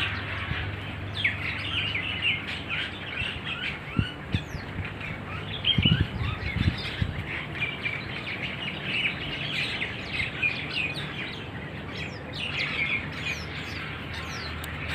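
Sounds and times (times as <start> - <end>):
starlings chattering and chirping: 0.0 - 14.9.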